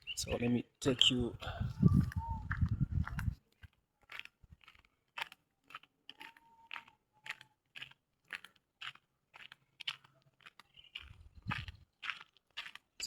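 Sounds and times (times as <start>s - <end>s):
footsteps crunching on rough ground: 0.2s - 13.0s.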